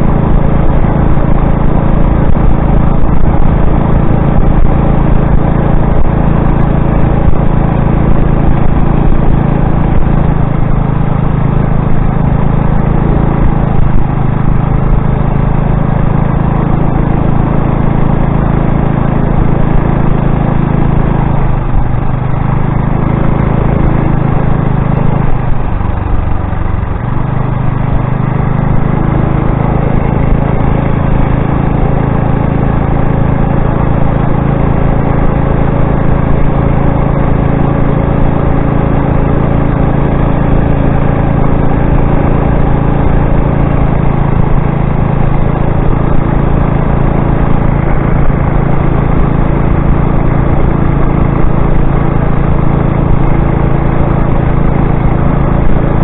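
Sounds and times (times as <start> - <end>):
motorized bicycle engine running: 0.0 - 56.0.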